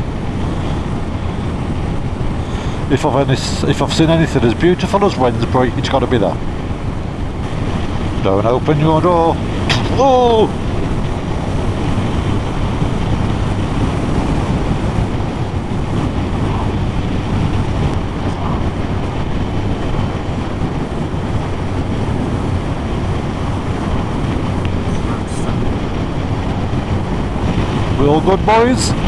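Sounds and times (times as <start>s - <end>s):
motorcycle engine hum: 0.0s - 29.0s
wind noise on microphone: 0.0s - 29.0s.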